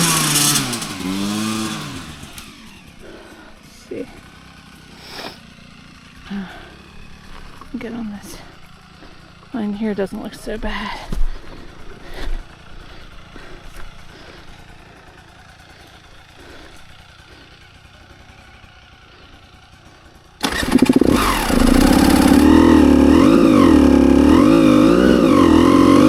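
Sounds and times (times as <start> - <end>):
dirt bike engine revving: 0.0 - 10.6, 11.3 - 26.0.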